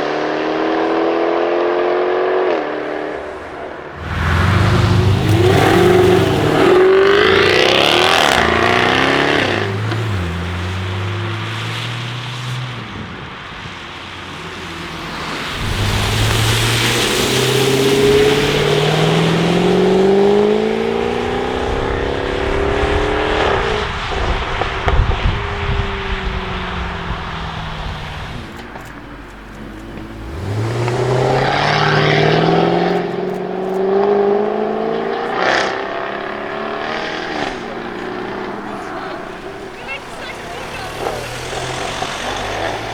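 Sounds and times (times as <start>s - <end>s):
car engine accelerating hard: 0.0s - 42.9s
exhaust crackles: 0.0s - 42.9s.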